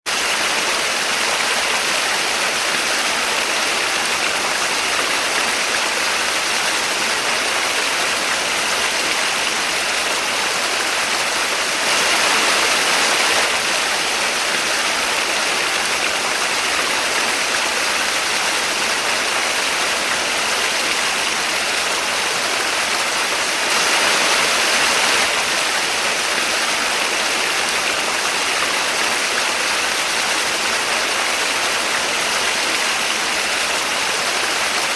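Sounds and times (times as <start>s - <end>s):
waterfall rushing and splashing: 0.1s - 34.9s.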